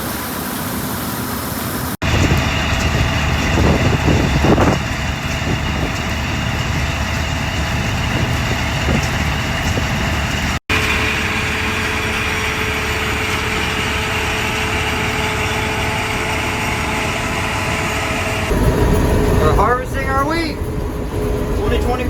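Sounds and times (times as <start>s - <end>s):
diesel engine running: 0.0s - 22.0s
steady whine: 2.0s - 22.0s.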